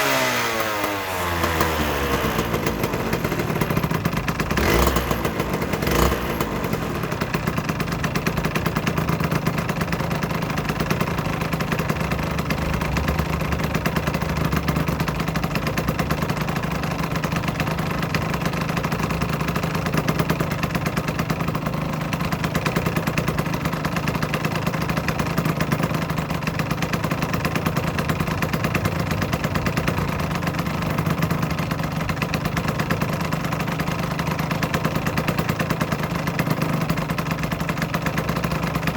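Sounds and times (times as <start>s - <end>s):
two-stroke engine idling: 0.0s - 38.9s.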